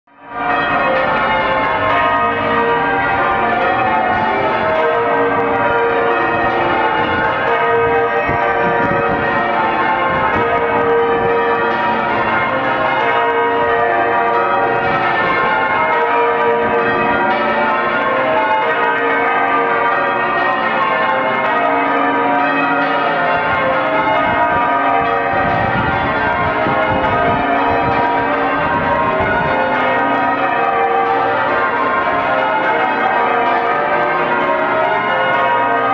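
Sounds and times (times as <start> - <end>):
church bells ringing a peal: 0.1 - 35.9.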